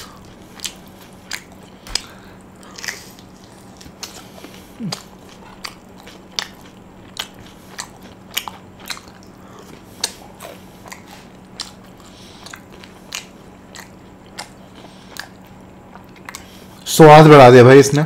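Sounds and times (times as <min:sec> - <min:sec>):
person chewing crunchy food: 0:00.0 - 0:16.8.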